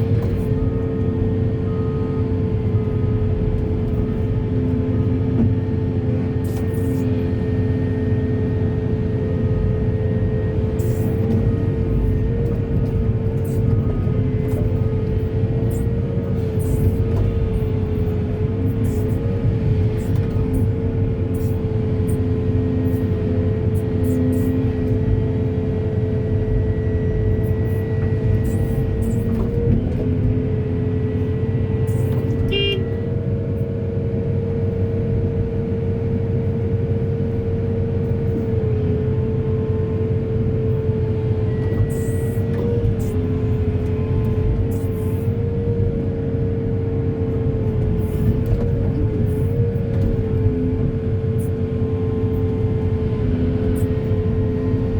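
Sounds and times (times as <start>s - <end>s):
diesel machinery engine rumble: 0.0s - 54.9s
high machinery whine: 0.0s - 54.9s.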